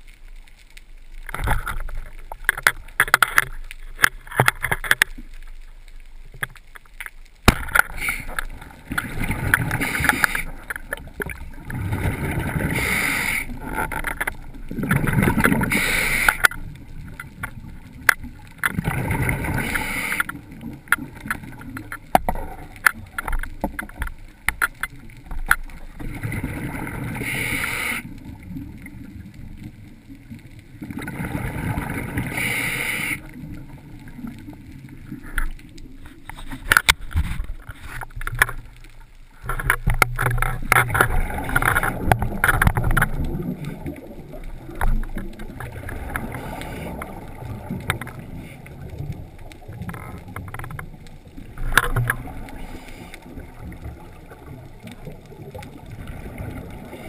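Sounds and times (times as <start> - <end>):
low rumble of water: 0.0 - 57.0
exhaled bubbles underwater: 7.7 - 36.1, 39.4 - 57.0.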